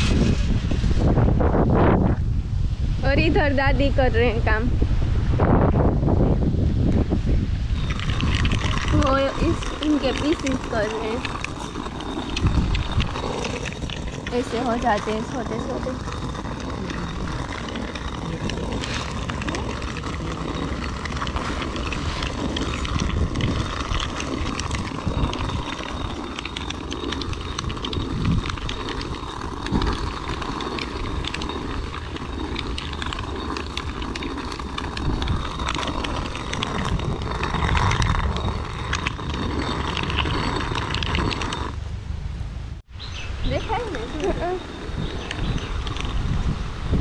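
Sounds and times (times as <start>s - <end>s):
stone hand mill grinding: 6.9s - 41.8s, 43.5s - 47.0s.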